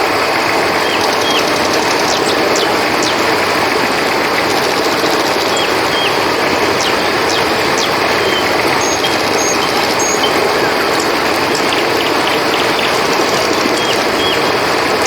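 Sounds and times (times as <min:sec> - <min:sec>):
river flowing: 0:00.0 - 0:15.0
high bird chirps and whistles: 0:00.7 - 0:03.4, 0:04.4 - 0:14.6.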